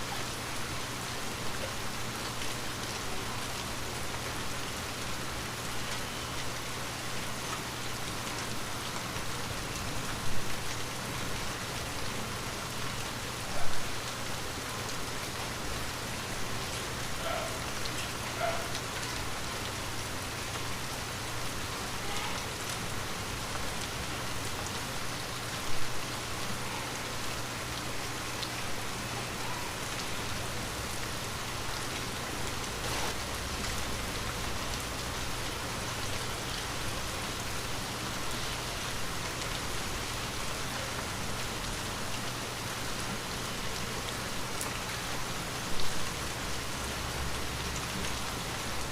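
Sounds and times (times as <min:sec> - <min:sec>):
light rain pattering: 0:00.0 - 0:48.9.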